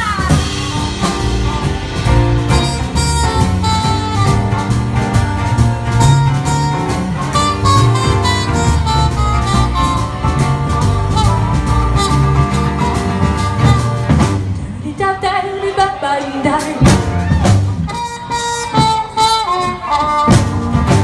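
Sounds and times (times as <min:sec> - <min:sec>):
wind instrument melody: 0:00.0 - 0:14.5, 0:17.3 - 0:21.0
drums: 0:00.0 - 0:21.0.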